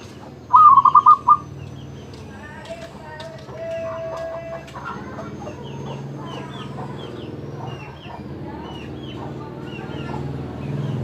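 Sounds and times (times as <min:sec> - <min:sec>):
low clucking bird calls: 0:00.0 - 0:11.0.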